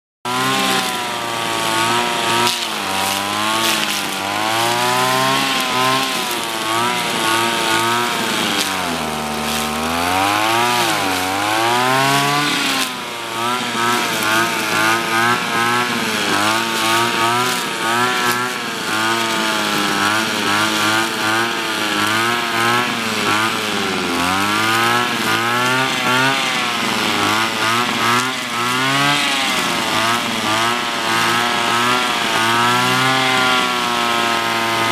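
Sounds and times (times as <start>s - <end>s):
brush cutter engine cutting grass: 0.3s - 34.9s.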